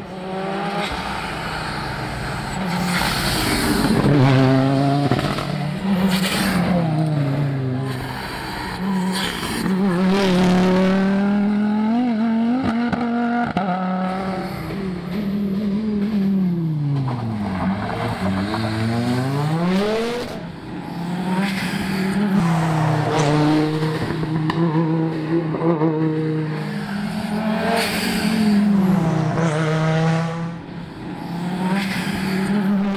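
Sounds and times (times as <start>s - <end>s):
rally car engine driven hard: 0.0s - 32.9s.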